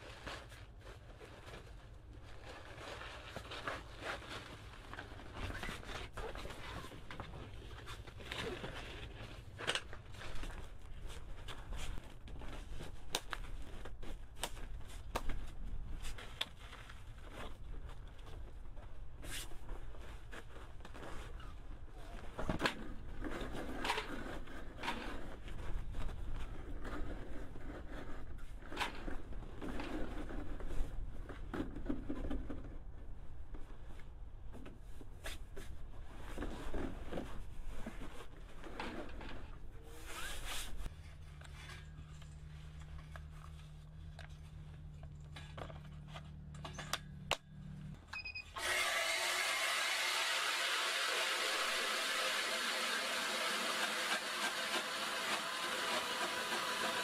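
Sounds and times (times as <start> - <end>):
rustling and crinkling handling noise: 0.0 - 48.0.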